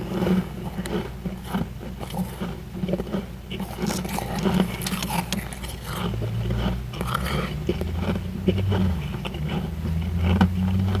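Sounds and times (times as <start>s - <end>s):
steady low hum: 0.0s - 10.2s
chewing frost crunches: 0.1s - 11.0s.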